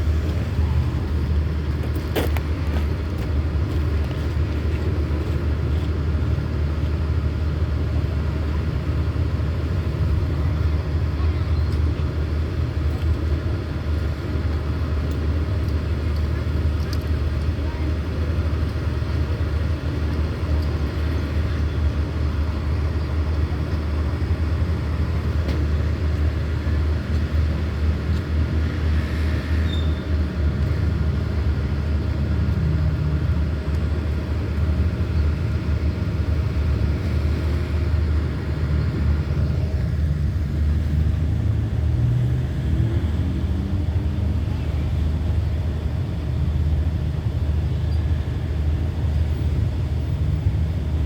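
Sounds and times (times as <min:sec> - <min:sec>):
locomotive engine droning: 0:00.0 - 0:51.0.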